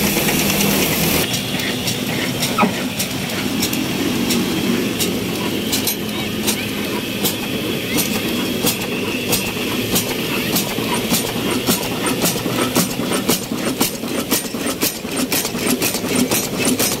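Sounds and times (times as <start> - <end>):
diesel engine chugging: 0.0 - 17.0
sharp regular engine click: 0.0 - 17.0.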